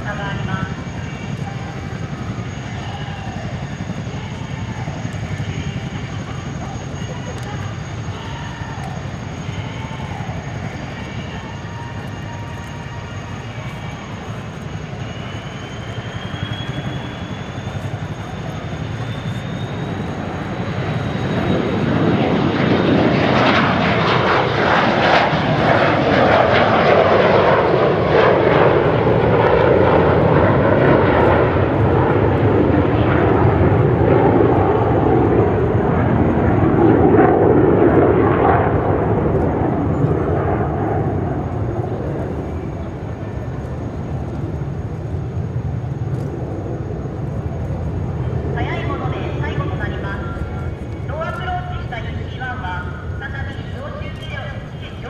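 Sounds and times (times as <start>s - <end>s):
jet flying past: 0.0s - 55.0s.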